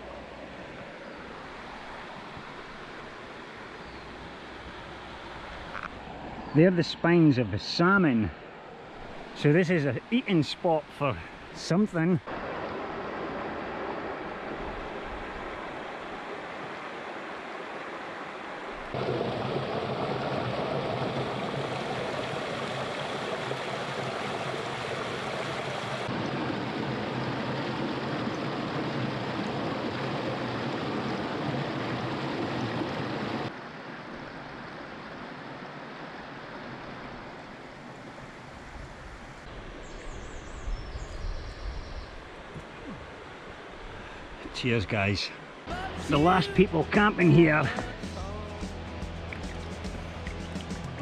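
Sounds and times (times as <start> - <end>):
river water rushing: 0.0 - 40.4, 42.1 - 48.1.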